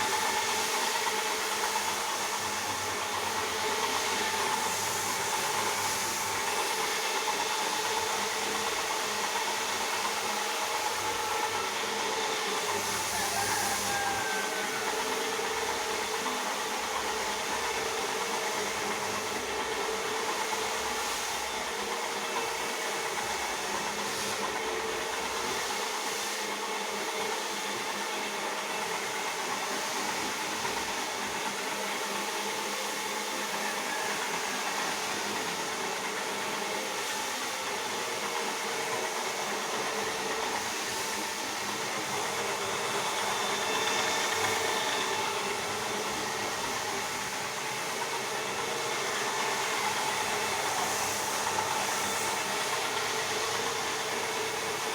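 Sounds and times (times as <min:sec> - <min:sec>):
floor polisher motor whirring: 0:00.0 - 0:54.9.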